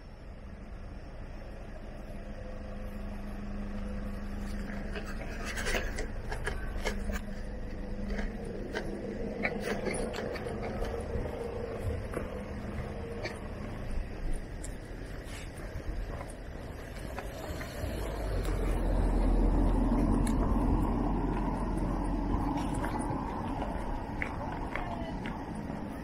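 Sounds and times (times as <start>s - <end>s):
faint steady hum: 0.0s - 26.0s
wind rumble on microphone: 0.0s - 26.0s.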